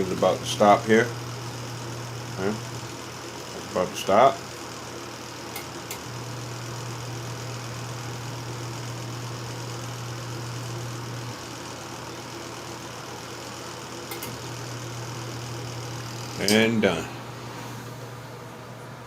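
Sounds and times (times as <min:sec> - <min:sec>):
washing machine motor humming: 0:00.0 - 0:19.0.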